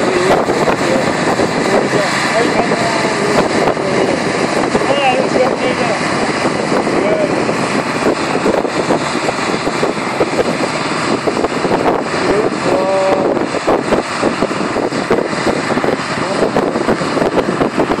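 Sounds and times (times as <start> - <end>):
combine harvester engine: 0.0 - 18.0
machinery rattling: 0.0 - 18.0.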